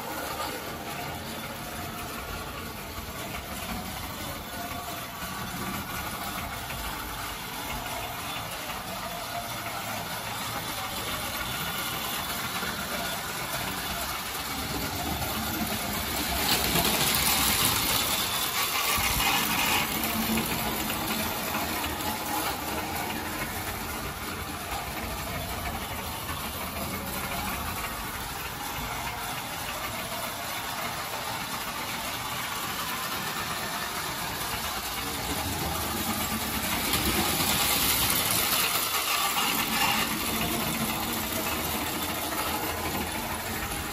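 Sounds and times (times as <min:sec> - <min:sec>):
model train motor hum: 0:00.0 - 0:43.9
wheels rattling on rails: 0:00.0 - 0:43.9.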